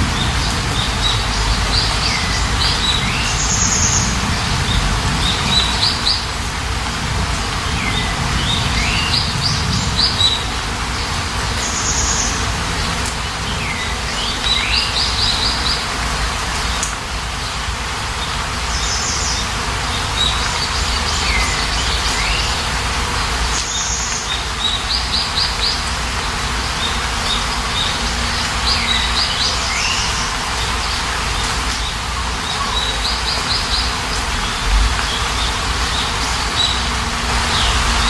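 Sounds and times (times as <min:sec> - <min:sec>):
birds chirping: 0:00.0 - 0:38.0
steady rain: 0:00.0 - 0:38.0.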